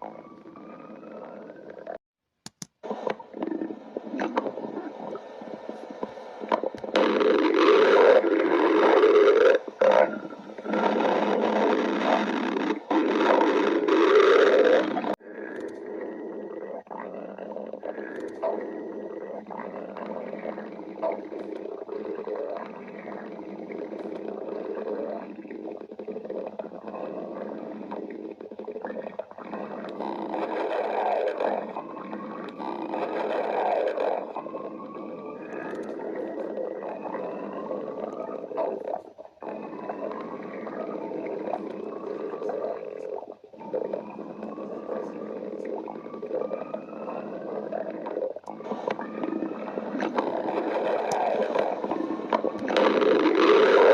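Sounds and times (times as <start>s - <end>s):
stomach growling: 0.0s - 2.0s, 2.8s - 53.9s.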